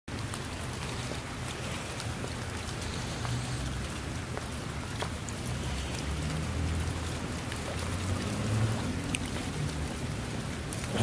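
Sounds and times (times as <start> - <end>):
rain falling on wet ground: 0.1 - 11.0
runoff water trickling: 0.1 - 11.0.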